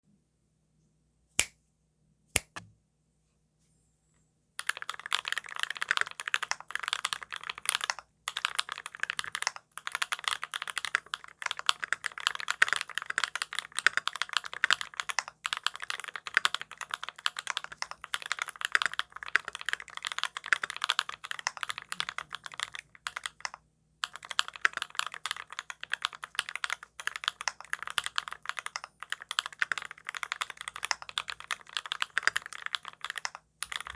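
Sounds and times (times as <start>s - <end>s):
mechanical keyboard typing: 4.6s - 33.9s.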